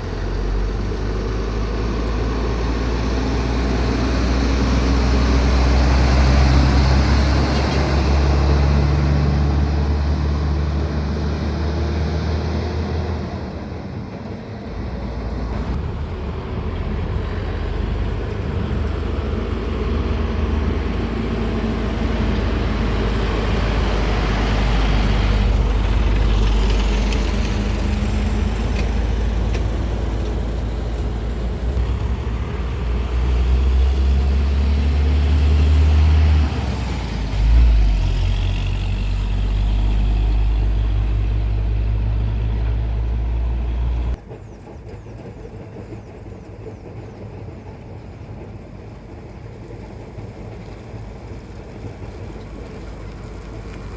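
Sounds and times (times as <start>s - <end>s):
road noise: 0.0s - 44.6s, 46.7s - 53.9s
vehicle engine rumble: 0.0s - 53.9s.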